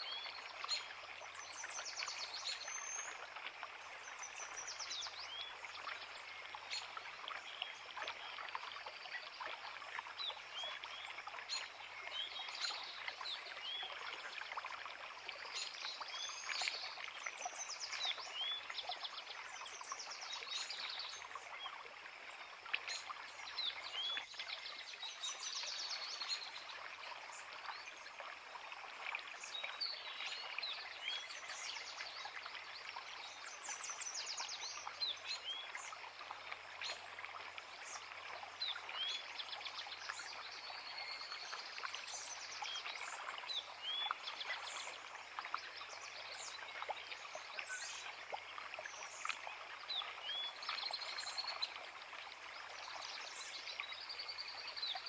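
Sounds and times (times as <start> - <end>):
creek running: 0.0 - 55.0.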